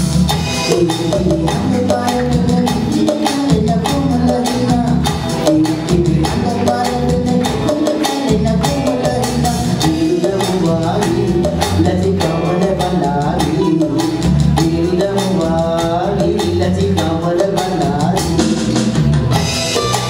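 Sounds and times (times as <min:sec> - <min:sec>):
live band music with steady beat: 0:00.0 - 0:20.0.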